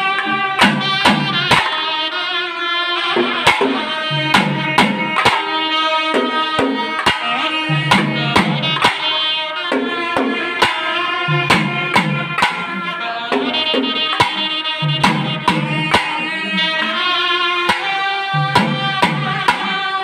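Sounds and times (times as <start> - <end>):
shrill wind instrument melody: 0.0 - 20.0.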